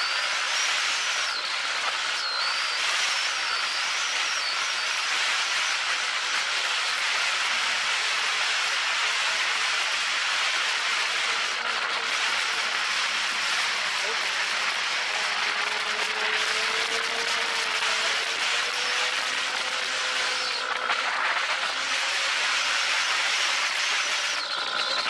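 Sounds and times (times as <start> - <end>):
motorcycle engine: 0.0 - 25.0.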